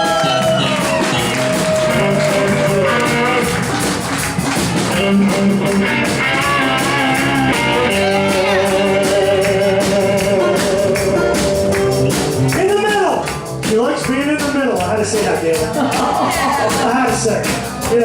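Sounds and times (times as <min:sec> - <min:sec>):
bass guitar: 0:00.0 - 0:18.0
drums with cymbal beat: 0:00.0 - 0:18.0
electric guitar: 0:00.0 - 0:18.0.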